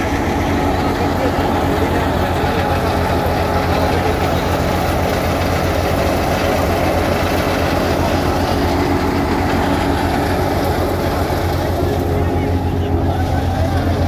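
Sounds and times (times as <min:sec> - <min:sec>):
wheat thresher running: 0:00.0 - 0:14.0.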